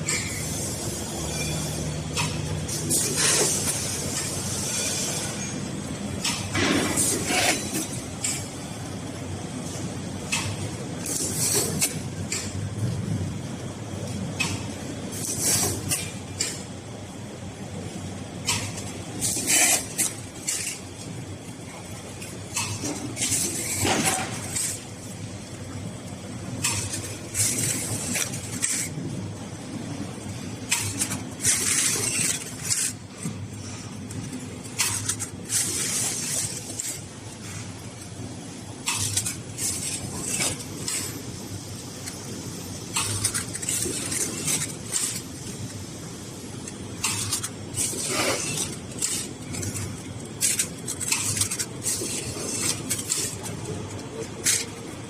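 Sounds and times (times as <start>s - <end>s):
packaging machine hum: 0.0s - 55.0s.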